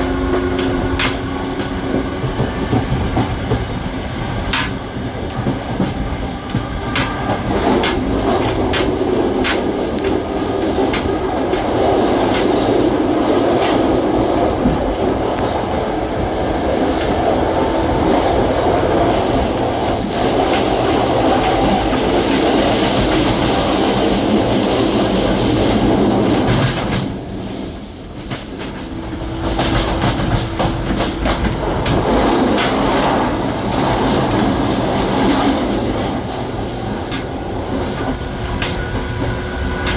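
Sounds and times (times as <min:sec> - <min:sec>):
train wheels rumbling: 0:00.0 - 0:39.9
wheels clacking over rail joints: 0:00.0 - 0:39.9.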